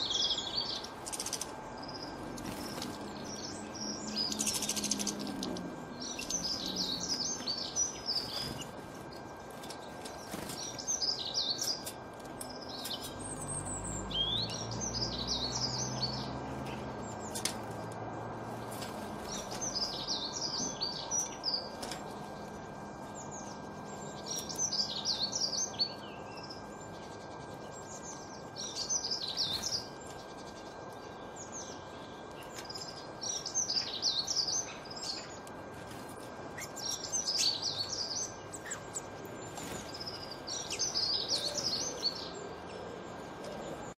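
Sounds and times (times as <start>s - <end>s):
songbird twittering: 0.0s - 9.3s, 10.1s - 17.5s, 19.2s - 35.4s, 36.5s - 43.9s
steady background noise: 0.0s - 43.9s.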